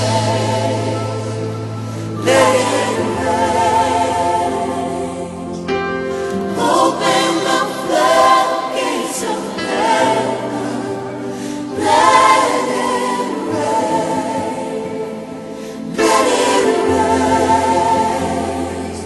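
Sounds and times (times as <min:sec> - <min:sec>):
choir singing long notes: 0:00.0 - 0:19.0
worship band playing: 0:00.0 - 0:19.0.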